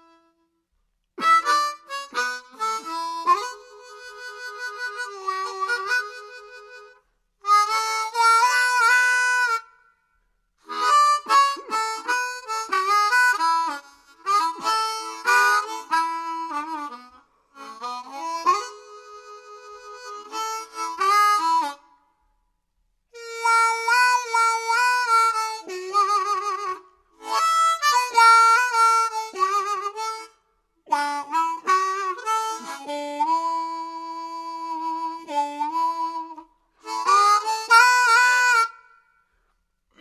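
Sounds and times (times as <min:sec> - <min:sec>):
harmonica chords: 0:00.0 - 0:10.0, 0:10.6 - 0:22.4, 0:23.1 - 0:40.0.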